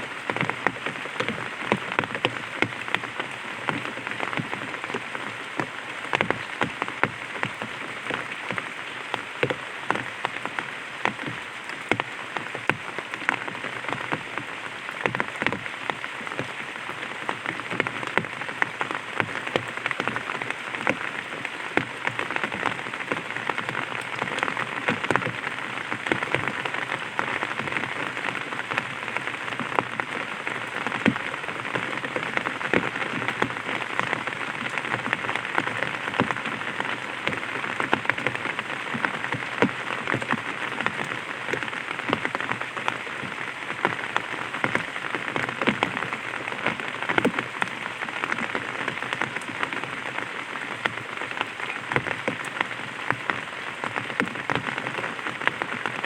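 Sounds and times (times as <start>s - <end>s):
light rain on umbrella: 0.0s - 56.0s.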